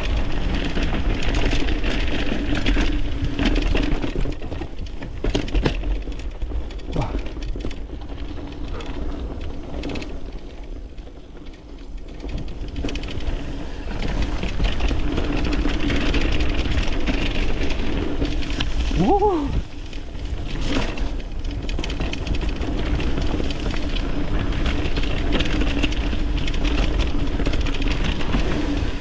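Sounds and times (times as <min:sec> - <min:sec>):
bike knocks and rattles: 0:00.0 - 0:29.0
bike tyres rolling on dirt: 0:00.0 - 0:29.0.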